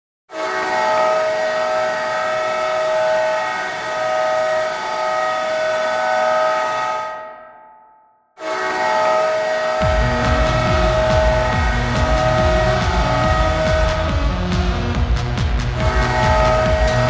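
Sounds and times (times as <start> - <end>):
goal horn blast: 0.3 - 7.7, 8.4 - 17.0.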